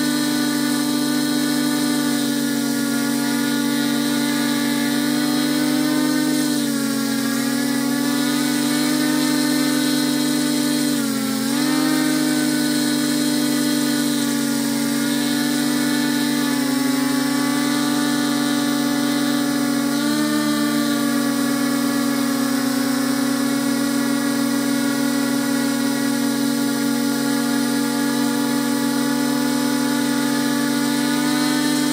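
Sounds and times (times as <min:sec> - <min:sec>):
drone propellers whining: 0:01.4 - 0:31.9.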